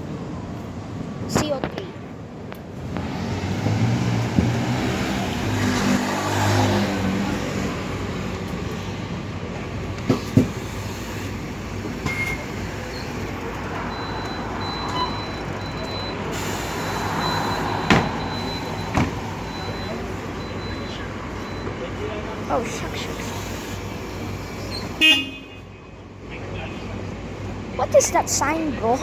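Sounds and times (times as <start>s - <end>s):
city bus engine running: 0.0s - 29.0s.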